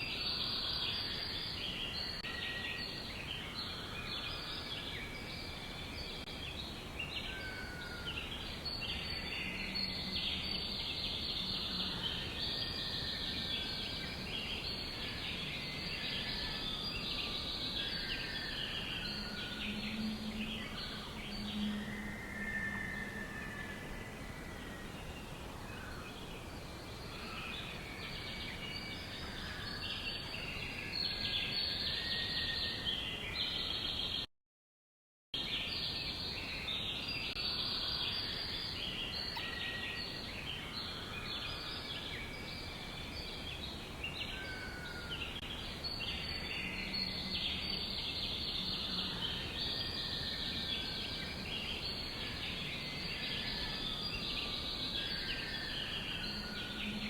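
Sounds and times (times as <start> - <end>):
songbirds chirping and trilling: 0.0 - 34.3, 35.4 - 57.0.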